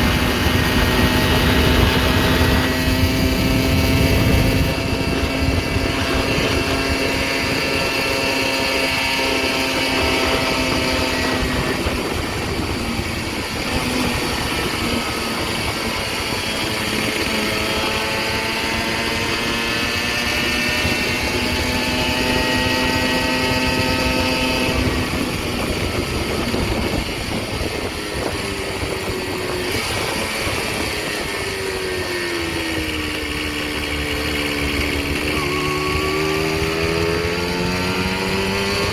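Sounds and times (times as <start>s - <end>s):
moped engine changing revs: 0.0s - 38.9s.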